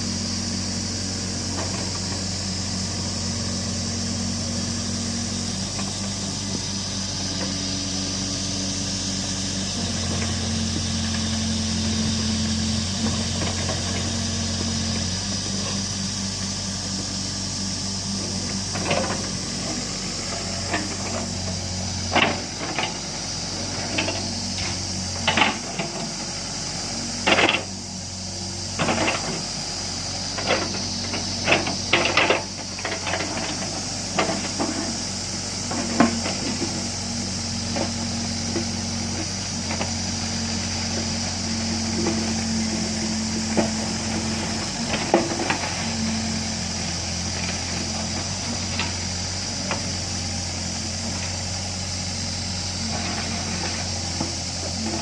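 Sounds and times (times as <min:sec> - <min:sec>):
excavator engine idling: 0:00.0 - 0:55.0.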